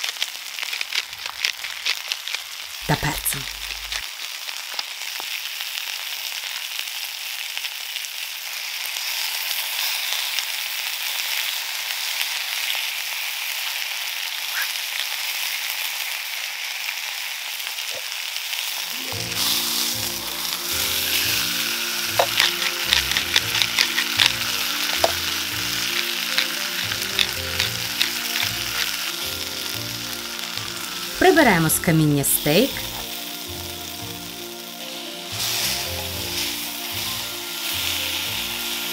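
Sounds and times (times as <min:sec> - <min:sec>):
meat and vegetables sizzling: 0:00.0 - 0:38.9.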